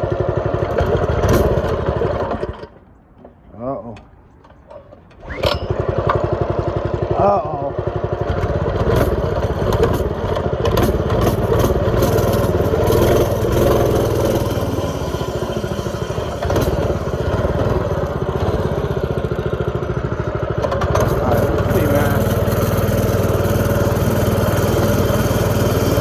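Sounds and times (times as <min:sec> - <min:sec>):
small two-stroke engine buzzing: 0:00.0 - 0:02.8, 0:05.2 - 0:26.0.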